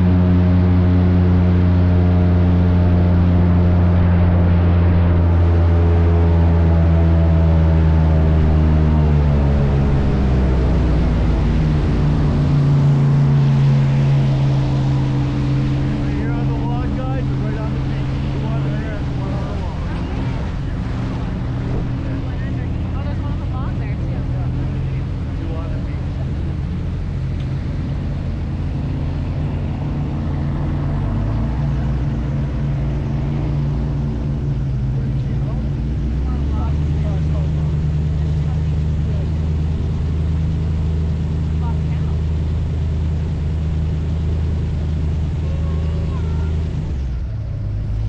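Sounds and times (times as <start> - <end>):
airboat engine and propeller drone: 0.0 - 48.0.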